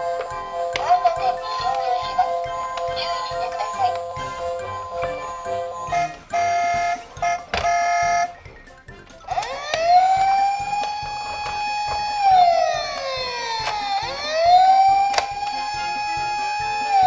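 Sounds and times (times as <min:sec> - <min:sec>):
toy electronic siren wailing: 0:00.0 - 0:08.5, 0:09.2 - 0:17.0.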